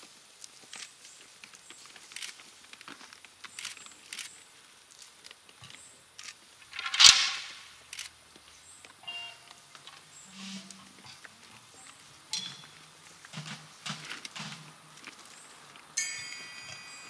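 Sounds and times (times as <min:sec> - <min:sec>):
hooves and feet crunching wood chips: 0:00.0 - 0:16.0.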